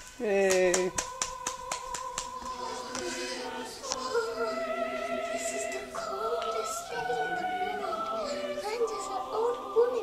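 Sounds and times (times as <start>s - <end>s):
choir singing: 0.9s - 10.0s.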